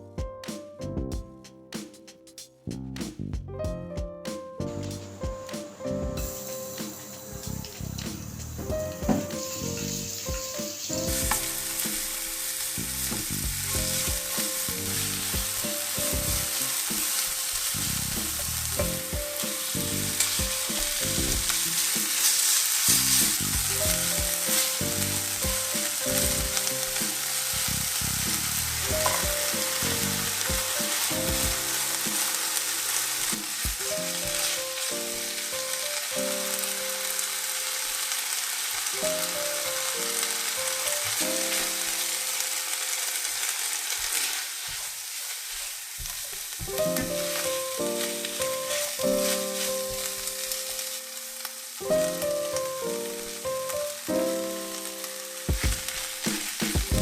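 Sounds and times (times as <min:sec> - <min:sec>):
background music: 0:00.0 - 0:37.2, 0:46.7 - 0:57.0
food sizzling in hot oil: 0:04.7 - 0:57.0.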